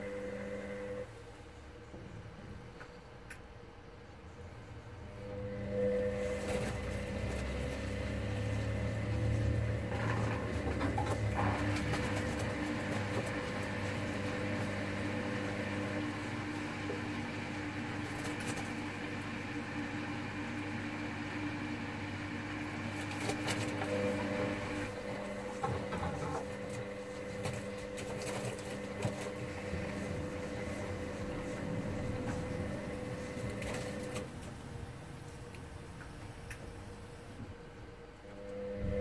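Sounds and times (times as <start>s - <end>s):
washing machine motor humming: 0.0s - 2.2s, 4.8s - 39.0s.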